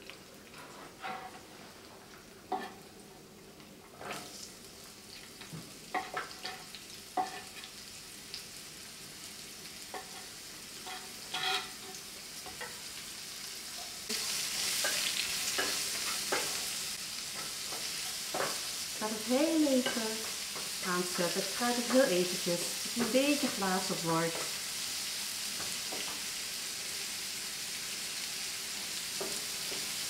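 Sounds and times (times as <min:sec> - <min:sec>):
onion and garlic sizzling: 0:00.0 - 0:30.0.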